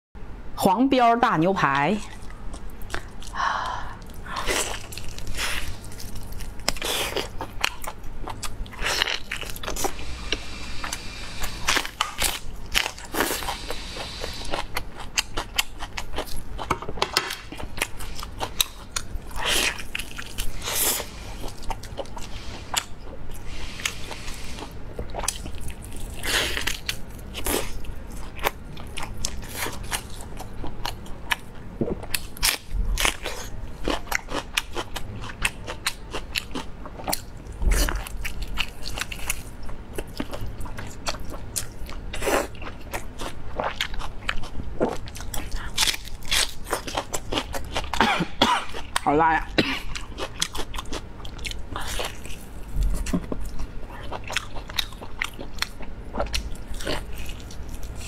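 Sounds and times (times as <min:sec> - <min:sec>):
crunchy biting and chewing: 0:04.0 - 0:49.0, 0:49.8 - 0:58.0.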